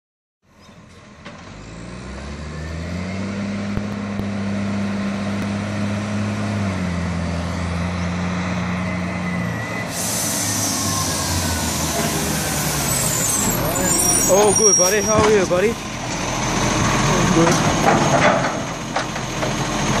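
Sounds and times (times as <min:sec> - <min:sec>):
garbage truck diesel engine: 0:00.4 - 0:20.0.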